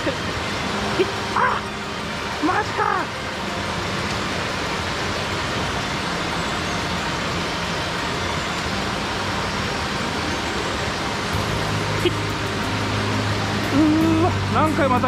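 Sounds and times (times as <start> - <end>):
fast-flowing stream rushing: 0.0 - 15.0.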